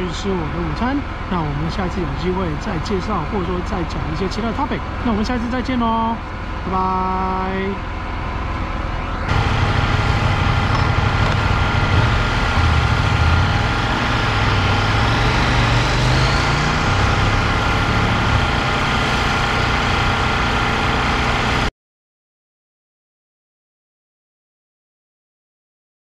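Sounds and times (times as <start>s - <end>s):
engine running at low revs: 0.0s - 21.7s.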